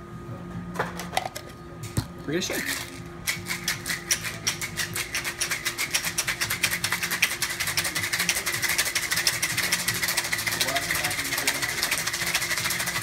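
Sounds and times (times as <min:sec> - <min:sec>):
ice rattling in cocktail shaker: 0:02.5 - 0:13.0.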